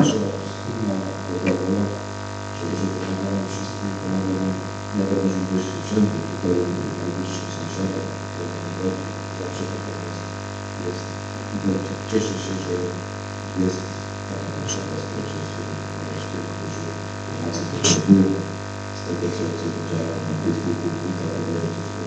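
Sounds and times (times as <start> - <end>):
electrical hum and buzz: 0.0 - 22.0
man speaking muffled: 0.0 - 22.0.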